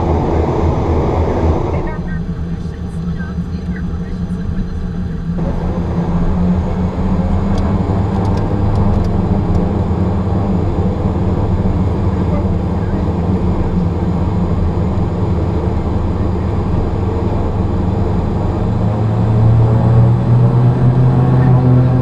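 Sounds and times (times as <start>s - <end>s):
turboprop engines running: 0.0s - 22.0s.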